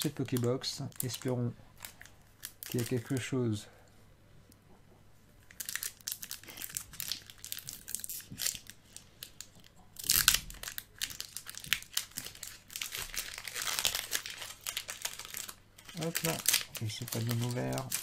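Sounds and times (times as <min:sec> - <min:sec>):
foil wrapper crinkling and tearing: 0:00.0 - 0:03.4, 0:05.4 - 0:18.0.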